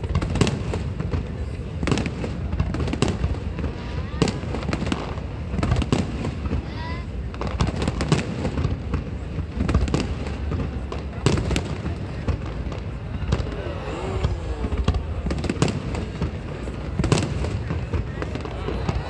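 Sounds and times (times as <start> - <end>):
fireworks booming and crackling: 0.0 - 19.0
rising whistling fireworks: 0.0 - 19.0.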